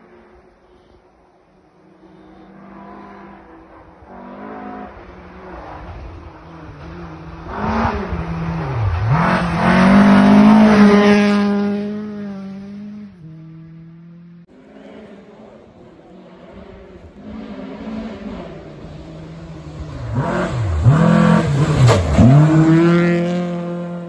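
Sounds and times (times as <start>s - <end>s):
rally car engine revving past: 2.3s - 13.6s, 14.6s - 24.0s.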